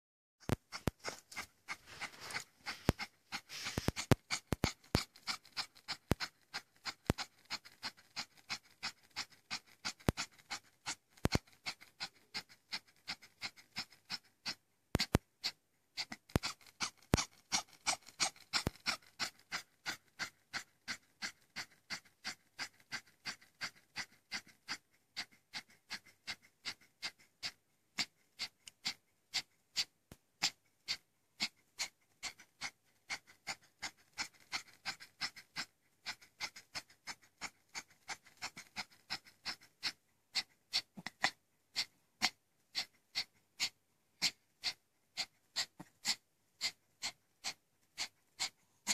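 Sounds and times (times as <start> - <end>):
small dog panting rapidly: 0.4 - 48.9.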